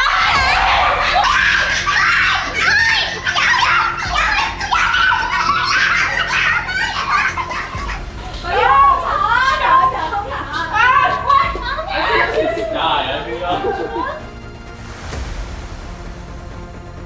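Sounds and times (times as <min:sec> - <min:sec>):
excited cries: 0:00.0 - 0:14.4
group of people laughing: 0:00.0 - 0:14.4.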